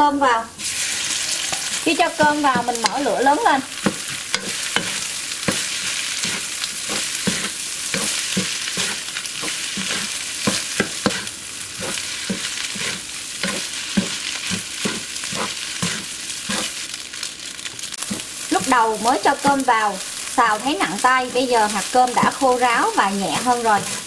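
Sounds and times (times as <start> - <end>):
rice sizzling in a wok: 0.1 - 24.0
wooden spatula scraping a pan: 0.6 - 16.9, 17.8 - 24.0.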